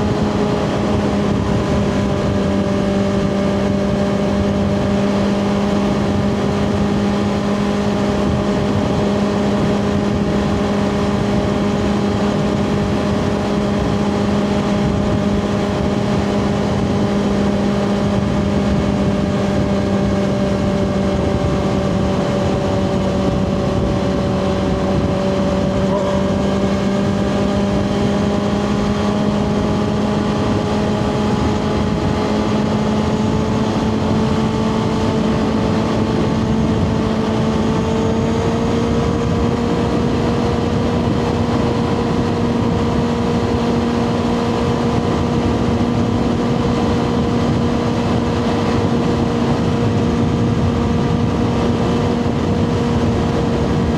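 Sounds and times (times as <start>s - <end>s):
motorcycle engine at steady revs: 0.0s - 53.9s
wind and road noise: 0.0s - 53.9s.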